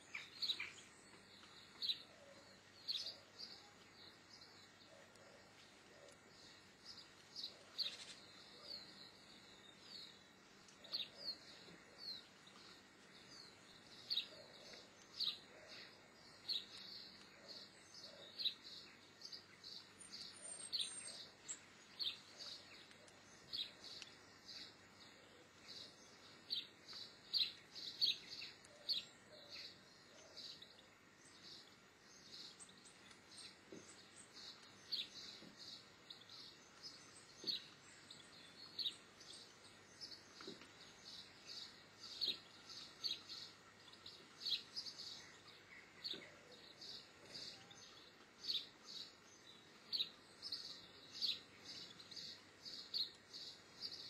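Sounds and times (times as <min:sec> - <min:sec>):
faint steady hiss: 0:00.0 - 0:54.0
small bird chirps: 0:00.0 - 0:54.0.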